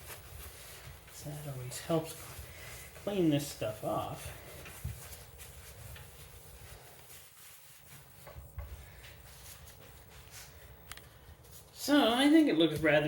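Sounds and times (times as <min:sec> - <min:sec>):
cloth rubbing plastic: 0:00.0 - 0:13.0.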